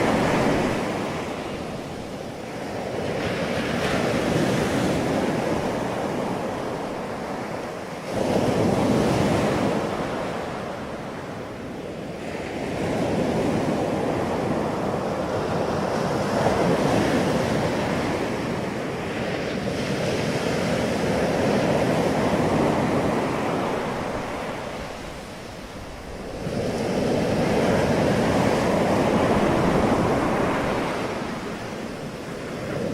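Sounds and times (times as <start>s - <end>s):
ocean surf breaking on beach: 0.0s - 32.9s
wind on microphone: 0.0s - 32.9s.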